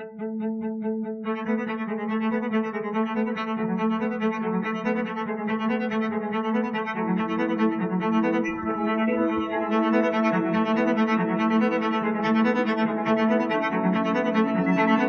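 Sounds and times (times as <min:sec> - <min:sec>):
bowed strings over steady pulse: 0:00.0 - 0:15.0.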